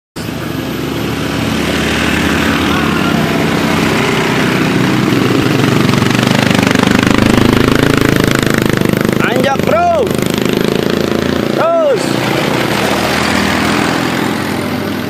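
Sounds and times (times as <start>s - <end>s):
motorcycle and scooter engines running: 0.2s - 15.0s.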